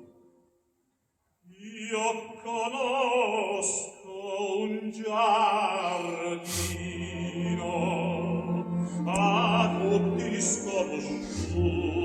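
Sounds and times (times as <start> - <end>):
operatic singing with orchestra: 1.5 - 12.0.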